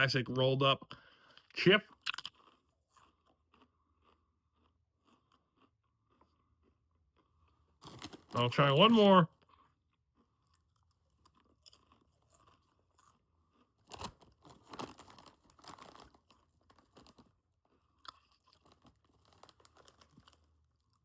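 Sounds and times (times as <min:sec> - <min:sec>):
person crunching tortilla chip: 0:02.0 - 0:08.5, 0:09.3 - 0:21.0.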